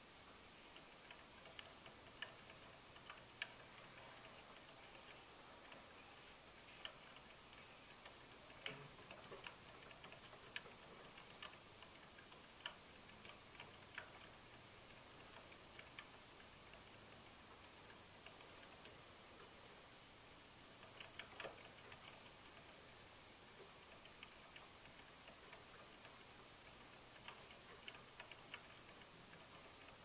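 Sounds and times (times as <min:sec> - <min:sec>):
faint clicks and ticks: 0:00.0 - 0:30.0
steady hiss: 0:00.0 - 0:30.0.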